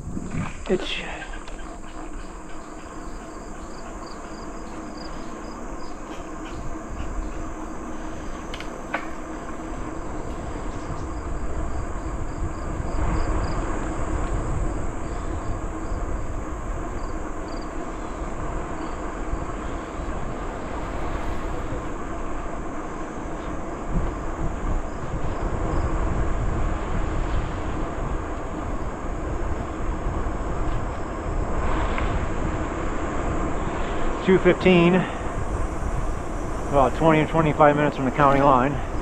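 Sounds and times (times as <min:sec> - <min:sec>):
bicycle tyres rumbling on trail: 0:00.0 - 0:39.0
insects trilling: 0:00.0 - 0:39.0
wind on microphone: 0:00.0 - 0:39.0.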